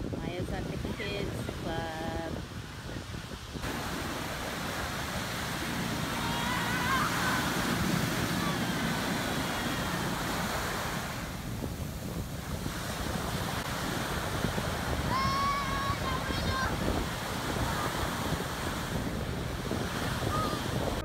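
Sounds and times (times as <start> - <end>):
ocean surf breaking on beach: 0.0 - 21.0
wind on microphone: 0.0 - 21.0.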